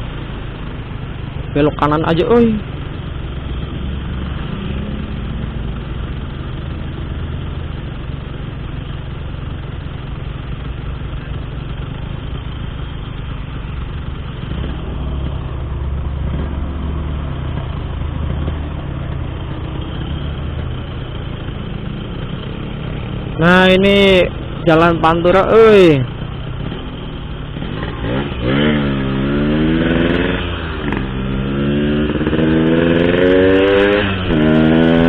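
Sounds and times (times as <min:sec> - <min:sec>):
motorcycle exhaust note: 0:00.0 - 0:35.0
road and wind noise: 0:00.0 - 0:35.0.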